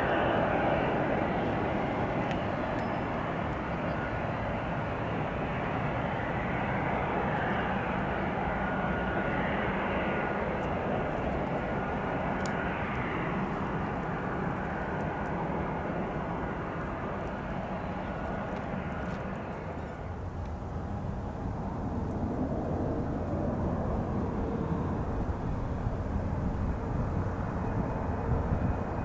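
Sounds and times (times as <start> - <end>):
faint high whine: 0.0 - 29.0
jet engines taxiing: 0.0 - 29.0.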